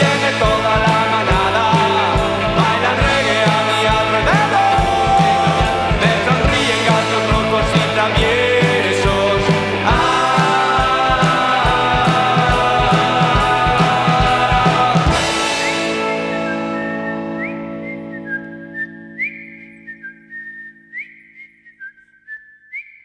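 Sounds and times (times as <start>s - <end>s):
rock song with singing: 0.0s - 18.5s.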